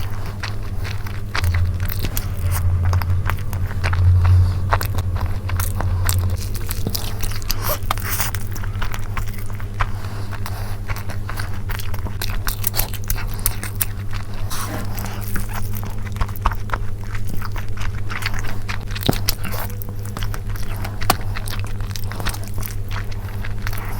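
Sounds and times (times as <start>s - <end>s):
mouth smacks and chewing: 0.0s - 23.9s
steady low hum: 0.0s - 23.9s.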